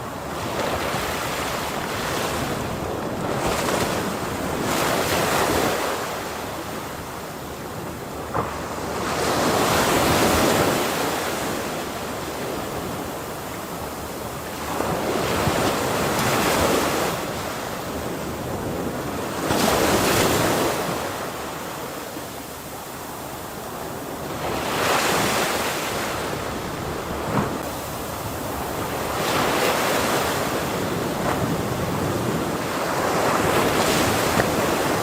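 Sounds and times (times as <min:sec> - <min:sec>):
ocean waves crashing: 0:00.0 - 0:35.0.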